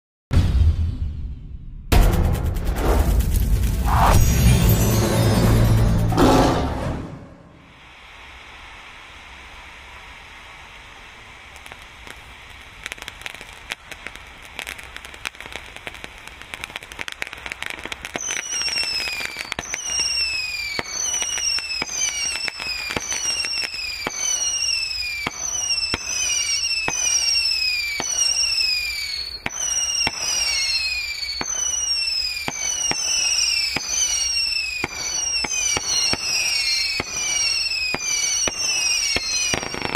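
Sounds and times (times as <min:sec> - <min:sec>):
firework crackling and pops: 0:02.3 - 0:05.4, 0:07.6 - 0:39.9
falling firework whistles: 0:02.8 - 0:06.4, 0:07.1 - 0:39.9.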